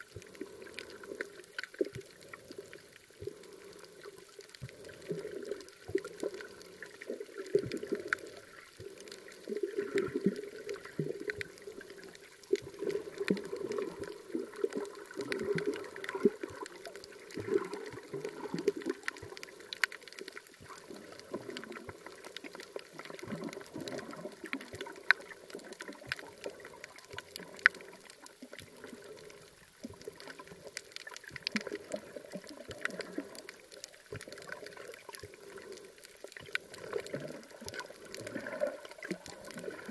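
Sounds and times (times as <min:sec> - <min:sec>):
water sloshing underwater: 0:00.0 - 0:39.9.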